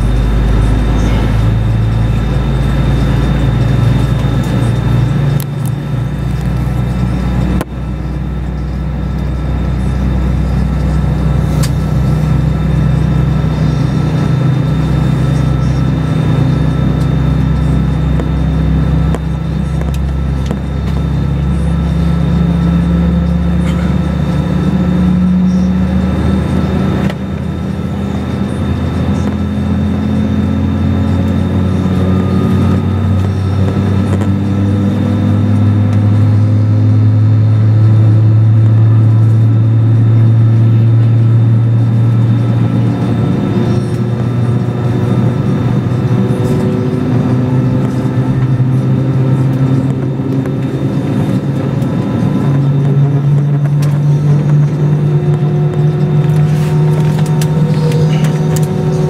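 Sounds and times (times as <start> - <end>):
jet engine hum in cabin: 0.0 - 59.0.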